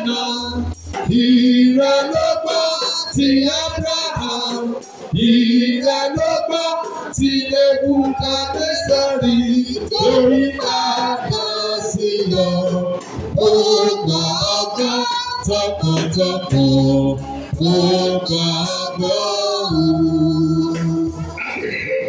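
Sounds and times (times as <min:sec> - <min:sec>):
bass line: 0:00.0 - 0:22.0
choir singing: 0:00.0 - 0:22.0
instrumental accompaniment: 0:00.0 - 0:22.0
percussion beat: 0:00.0 - 0:22.0.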